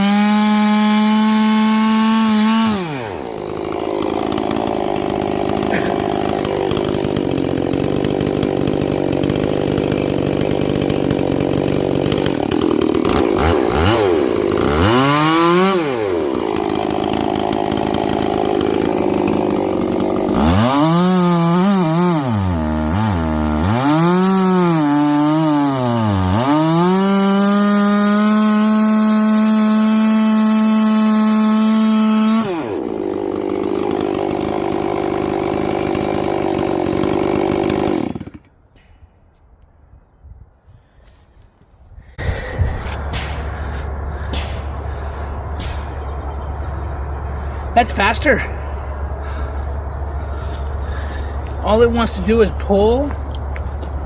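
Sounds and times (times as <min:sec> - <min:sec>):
chainsaw cutting wood and revving: 0:00.0 - 0:39.0, 0:42.0 - 0:54.0.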